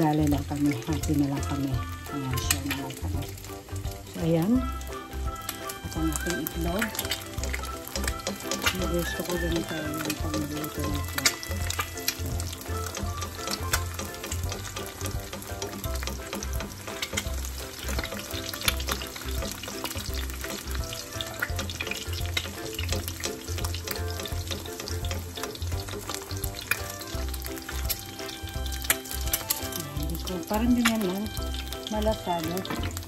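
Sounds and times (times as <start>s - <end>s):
egg sizzling with crackling pops: 0.0s - 33.0s.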